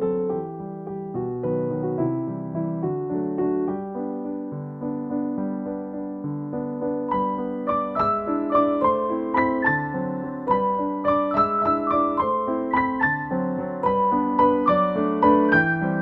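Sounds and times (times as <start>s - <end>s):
electric piano music: 0.0s - 16.0s.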